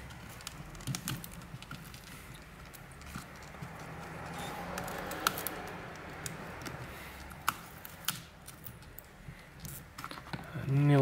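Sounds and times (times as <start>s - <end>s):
screen adhesive scraping and crackling: 0.0s - 11.0s.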